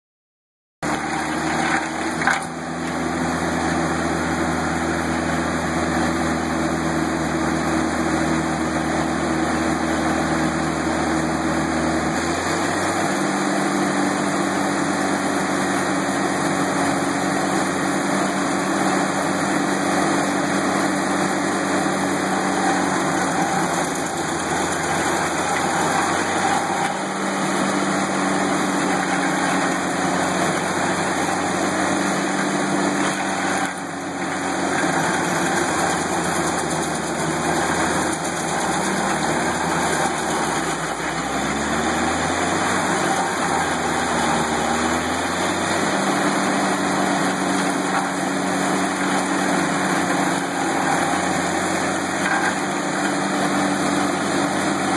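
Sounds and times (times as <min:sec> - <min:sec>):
cutting wheel grinding stump: 0:00.8 - 0:54.9
engine running under load: 0:00.8 - 0:54.9.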